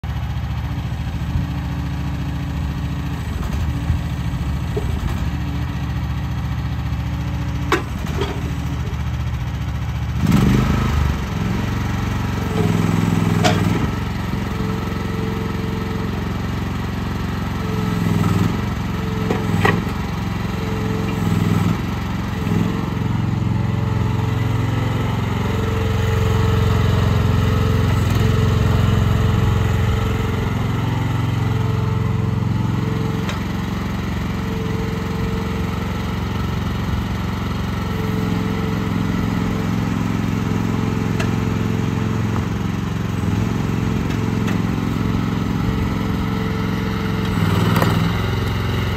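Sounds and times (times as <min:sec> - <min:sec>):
mini excavator engine running: 0:00.0 - 0:48.9.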